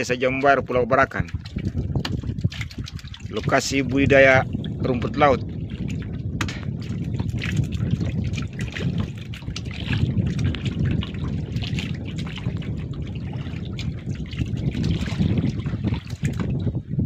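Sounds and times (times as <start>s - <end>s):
water lapping against boat hull: 0.0s - 17.0s
wind rumbling on microphone: 0.0s - 17.0s
small splashes: 1.1s - 16.7s.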